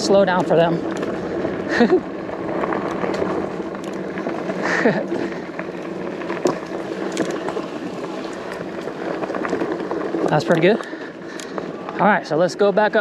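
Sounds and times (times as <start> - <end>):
bike freewheel ticking: 0.0 - 13.0
tyres rolling on dirt: 0.0 - 13.0.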